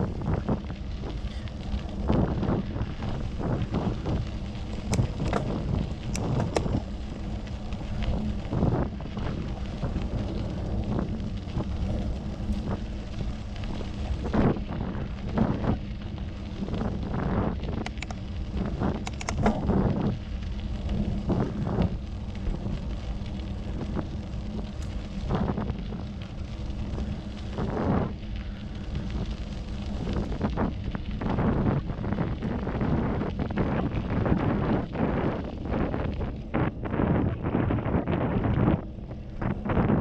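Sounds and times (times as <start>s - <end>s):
tyres rumbling on path: 0.0s - 40.0s
wind buffeting microphone: 0.0s - 40.0s.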